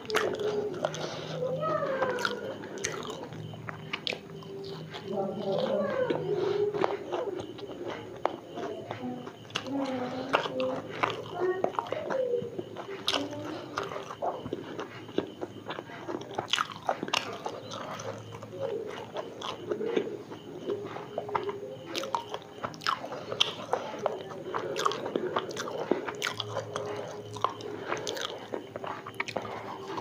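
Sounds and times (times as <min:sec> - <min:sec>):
crisp chewing crunches: 0:00.0 - 0:30.0.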